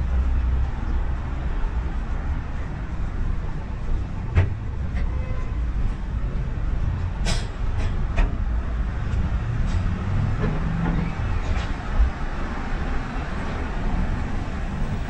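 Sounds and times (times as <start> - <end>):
street traffic rumbling: 0.0 - 15.0.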